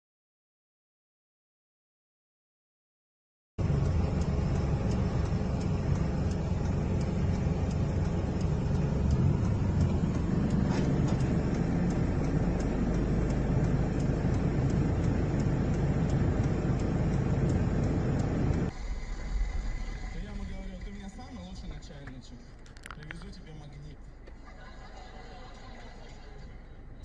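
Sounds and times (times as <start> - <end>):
car driving rumble: 3.6 - 27.0.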